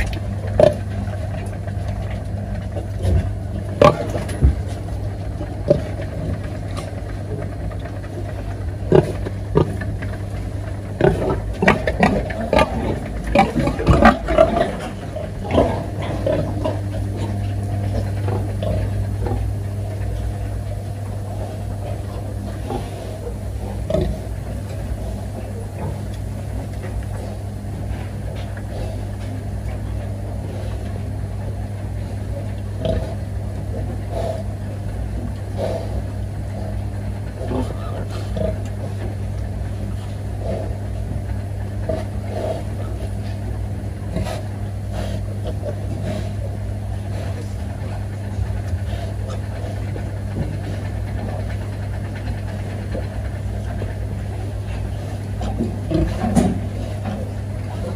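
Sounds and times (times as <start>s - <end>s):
low mechanical hum: 0.0s - 57.9s
pigs grunting: 0.0s - 57.9s.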